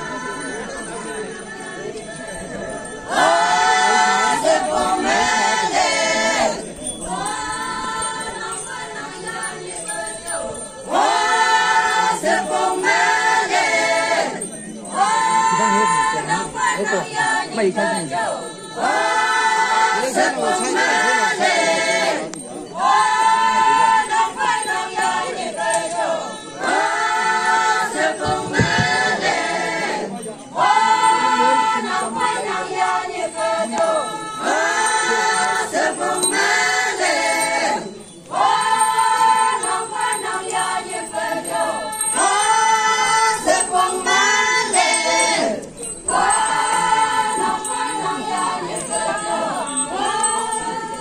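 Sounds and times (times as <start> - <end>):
women singing unaccompanied: 1.2 - 51.0.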